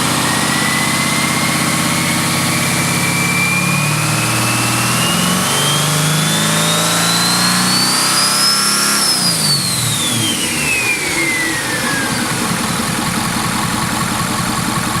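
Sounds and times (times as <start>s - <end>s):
diesel engine idling: 0.0s - 6.6s, 9.2s - 15.0s
turbocharger whistle winding down: 0.0s - 13.9s.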